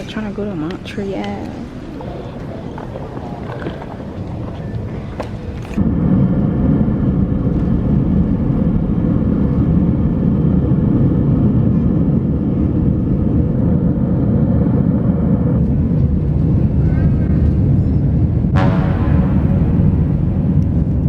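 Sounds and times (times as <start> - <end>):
constant hum tone: 0.0 - 21.0.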